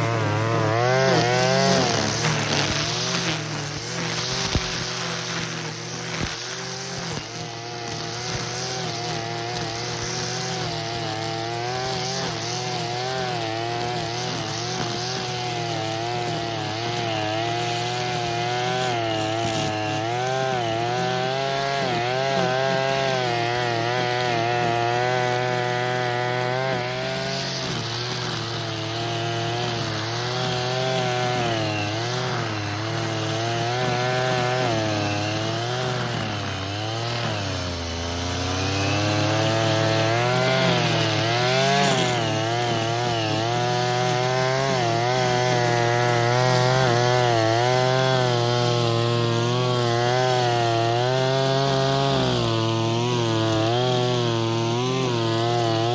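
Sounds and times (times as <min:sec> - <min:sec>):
brush cutter engine cutting weeds: 0:00.0 - 0:55.9.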